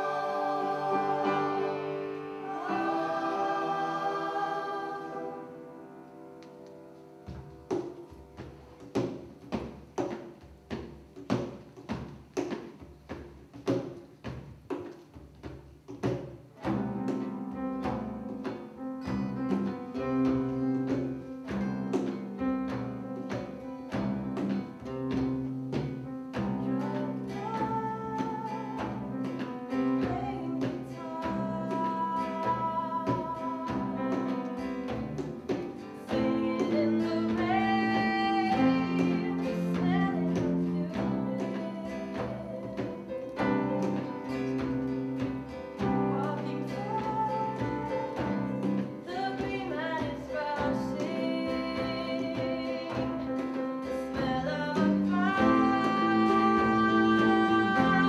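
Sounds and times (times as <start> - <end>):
live band music: 0.0 - 58.0.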